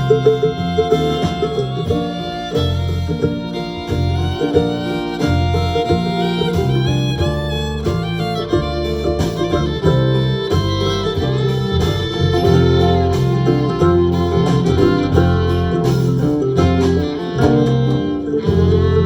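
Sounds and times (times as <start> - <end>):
live band guitar and fiddle: 0.0 - 19.0.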